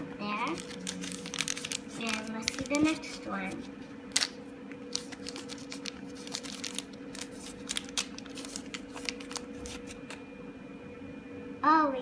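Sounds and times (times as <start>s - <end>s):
plastic packet crinkling: 0.3s - 10.2s.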